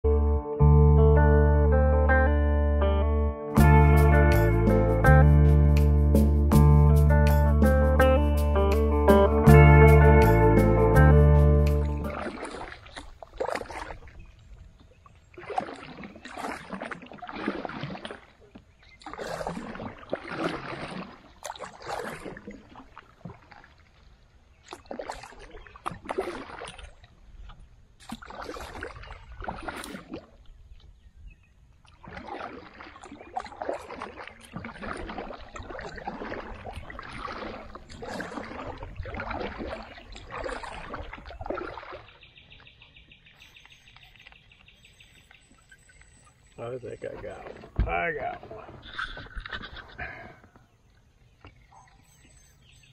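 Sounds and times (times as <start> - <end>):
paddle splashing through water: 3.6 - 52.8.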